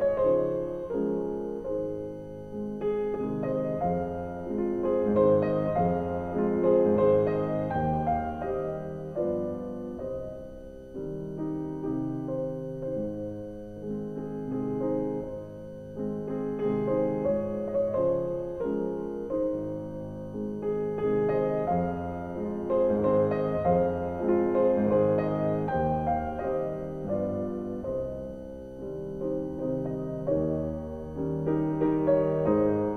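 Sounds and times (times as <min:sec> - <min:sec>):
calm piano music: 0:00.0 - 0:32.9.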